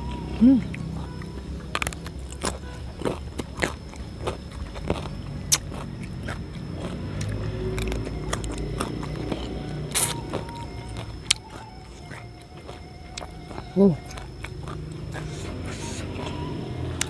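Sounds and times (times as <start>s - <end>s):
crunching and chewing coconut: 0.0s - 17.0s.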